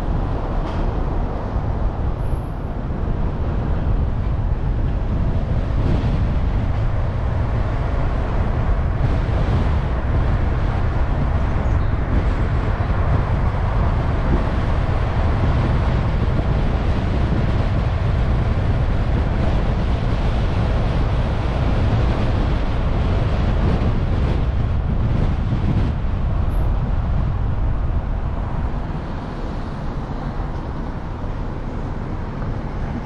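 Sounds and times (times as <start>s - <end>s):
deep engine rumble: 0.0s - 33.0s
road and tyre noise: 0.0s - 33.0s.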